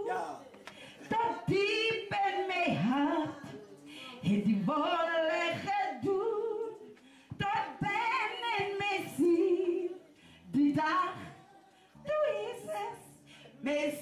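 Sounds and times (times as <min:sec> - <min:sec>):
woman singing unaccompanied: 0:01.0 - 0:03.6, 0:04.2 - 0:14.0.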